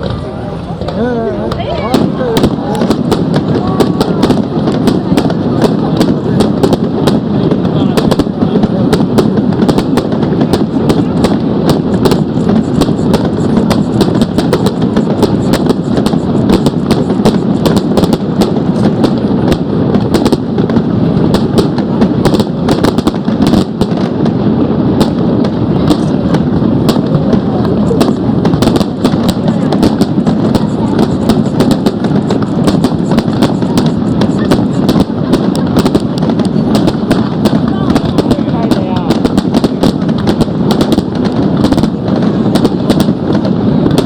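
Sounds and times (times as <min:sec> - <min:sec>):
fireworks bangs and crackles: 0:00.0 - 0:44.0.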